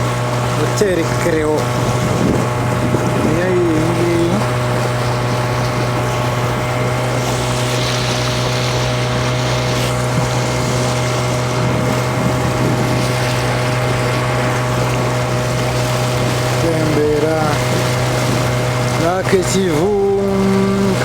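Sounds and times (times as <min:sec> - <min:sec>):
motorboat engine humming: 0:00.0 - 0:21.0
wind and water hiss: 0:00.0 - 0:21.0.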